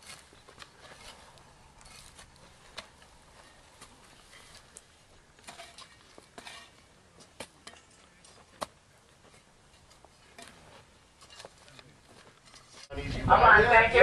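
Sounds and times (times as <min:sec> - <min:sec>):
hand tools scraping stony ground: 0:00.0 - 0:12.9.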